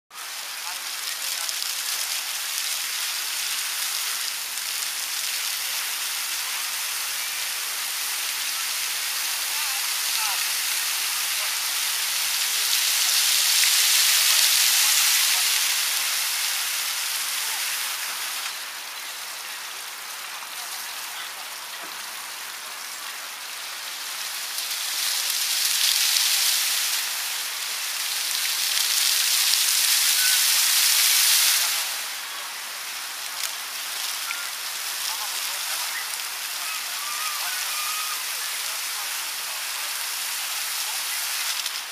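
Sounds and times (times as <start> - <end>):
fountain jets splashing: 0.1 - 41.9.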